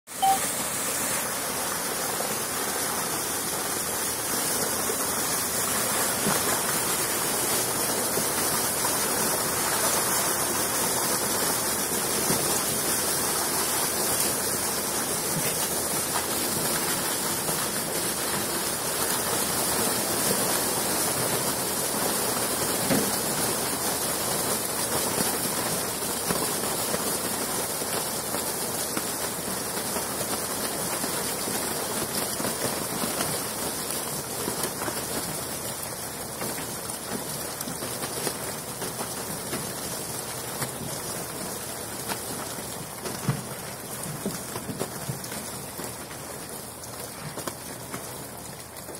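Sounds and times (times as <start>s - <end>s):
water gushing and splashing: 0.1s - 48.9s.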